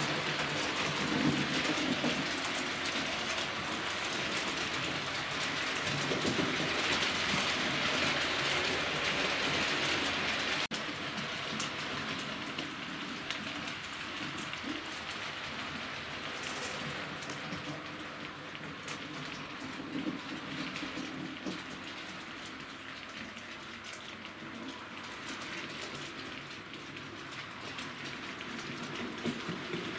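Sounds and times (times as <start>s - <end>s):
model train wheels rattling on track: 0.0s - 29.9s.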